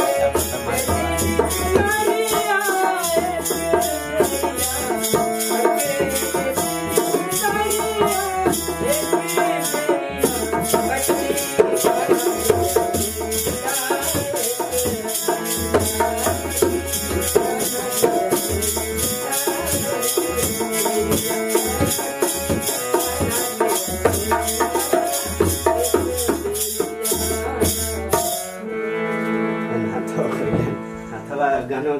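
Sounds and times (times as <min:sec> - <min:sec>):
hand drum beat: 0:00.0 - 0:28.5
harmonium melody: 0:00.0 - 0:31.9.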